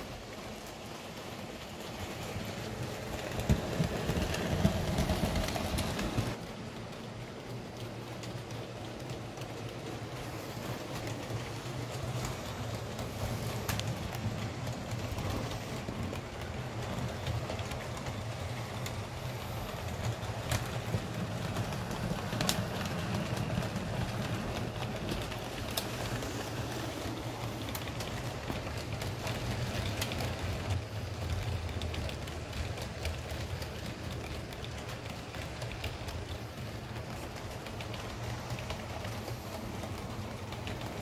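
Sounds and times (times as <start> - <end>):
wheels clicking on rails: 0.0 - 41.0.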